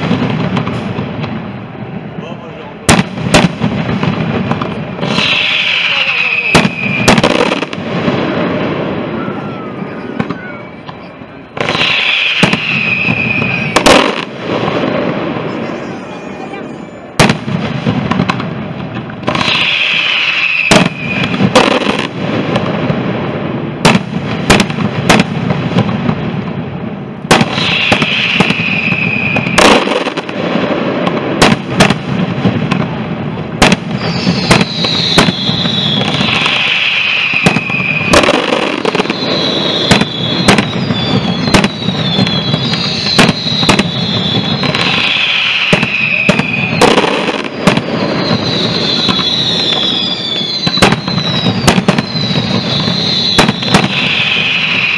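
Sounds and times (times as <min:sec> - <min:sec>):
fireworks falling whistles: 0:00.0 - 0:26.6, 0:27.2 - 0:54.9
fireworks bangs: 0:00.0 - 0:54.9
fireworks crackling: 0:00.0 - 0:54.9.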